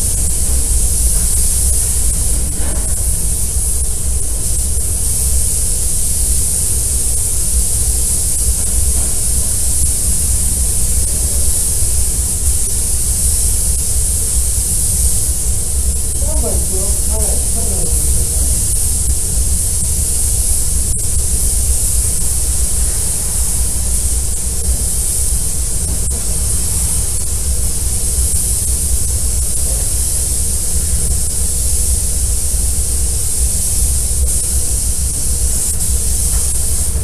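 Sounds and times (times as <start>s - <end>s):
spray guns hissing: 0.0s - 37.0s
steady low rumble: 0.0s - 37.0s.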